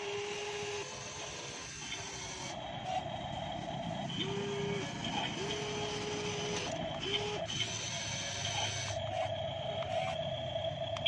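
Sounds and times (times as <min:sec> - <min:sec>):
model excavator motors whirring: 0:00.0 - 0:11.0.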